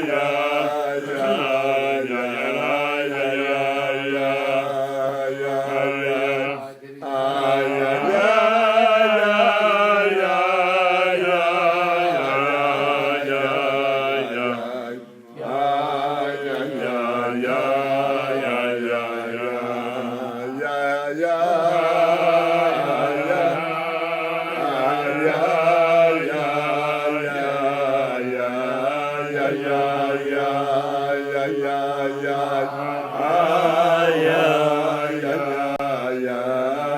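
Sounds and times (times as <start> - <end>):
person singing chant-like melody: 0.0 - 36.9.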